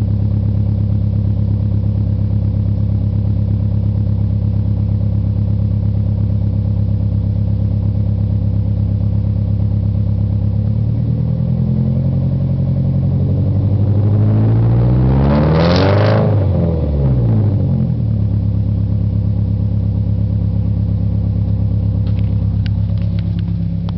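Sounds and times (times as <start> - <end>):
car engine idling and revving: 0.0 - 23.9.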